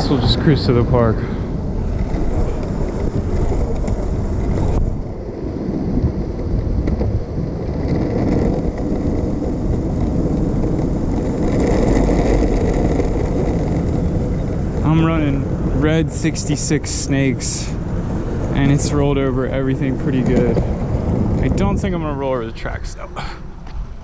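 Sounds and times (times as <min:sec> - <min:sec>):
skateboard wheels rolling on pavement: 0:00.0 - 0:24.0
wind buffeting microphone: 0:00.0 - 0:24.0.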